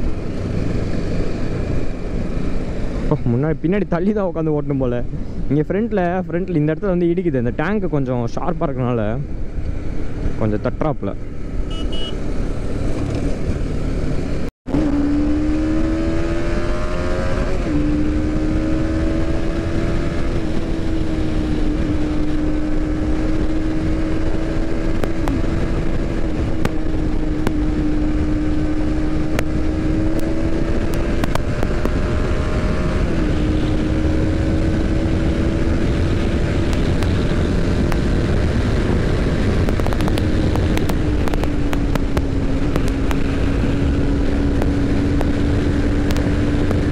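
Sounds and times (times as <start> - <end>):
motorcycle engine cruising: 0.0 - 3.9, 7.5 - 46.9
wind and road noise: 0.0 - 46.9.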